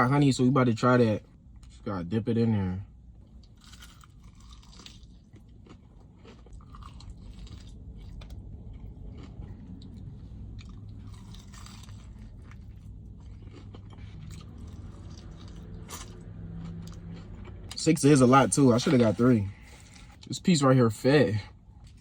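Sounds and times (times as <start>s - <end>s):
steady low hum: 0.0s - 22.0s
person chewing crispy chicken: 3.2s - 20.5s, 21.4s - 22.0s.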